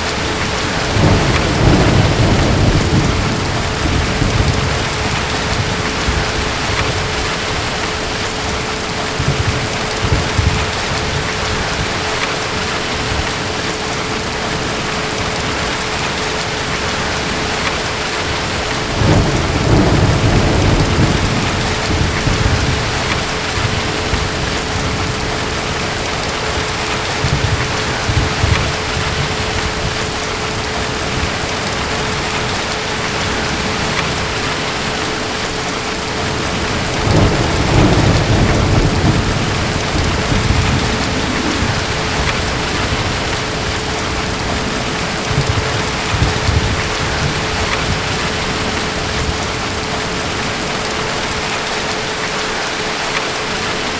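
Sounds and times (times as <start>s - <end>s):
distant thunder rumbling: 0.0s - 51.8s
steady rain: 0.0s - 53.9s.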